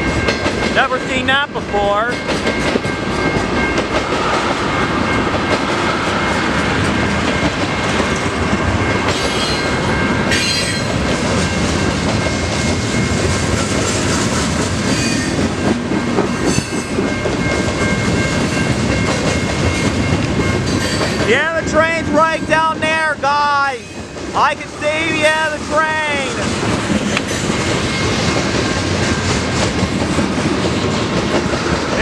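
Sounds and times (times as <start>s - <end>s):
clickety-clack over rail joints: 0.0s - 1.1s, 2.1s - 4.6s, 5.3s - 9.7s, 10.3s - 23.1s, 26.3s - 32.0s
freight train wheels rumbling: 0.0s - 32.0s.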